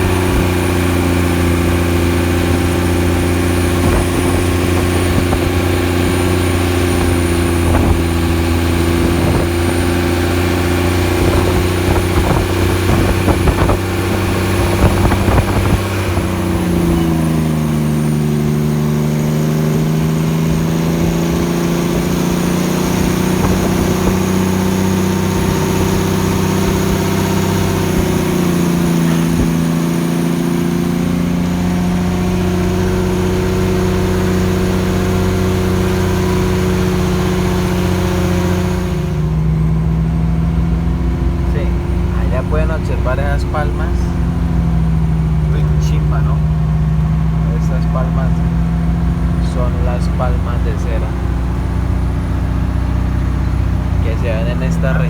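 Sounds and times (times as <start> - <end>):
truck diesel engine braking: 0.0 - 55.0.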